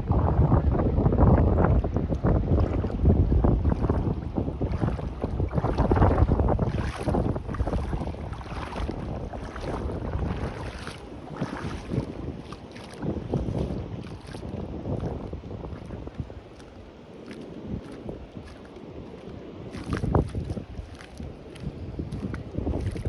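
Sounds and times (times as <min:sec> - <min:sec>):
wind rumbling on microphone: 0:00.0 - 0:23.0
sea water washing at shore: 0:00.4 - 0:23.0.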